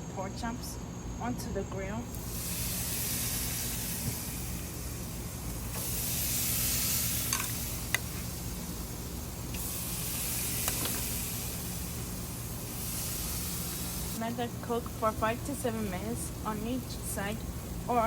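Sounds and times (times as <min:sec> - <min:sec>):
meat sizzling on a grill: 0:02.1 - 0:18.0.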